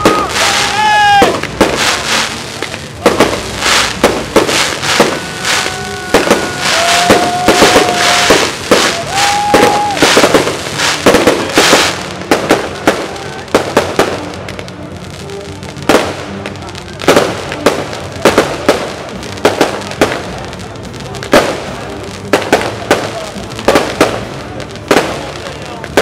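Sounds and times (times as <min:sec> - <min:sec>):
fireworks bursting: 0:00.0 - 0:26.0
fireworks crackling: 0:00.0 - 0:26.0.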